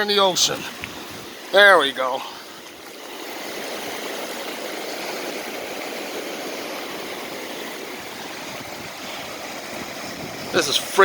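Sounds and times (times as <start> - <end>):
surf washing over shallows: 0.0 - 11.0.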